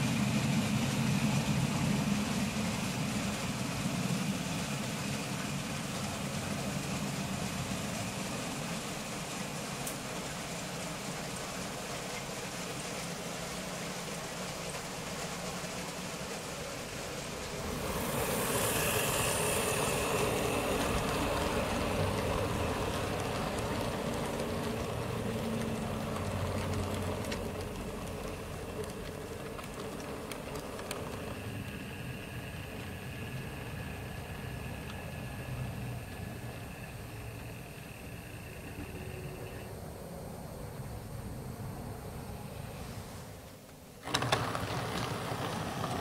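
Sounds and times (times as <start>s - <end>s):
model train rumbling: 0.0s - 46.0s.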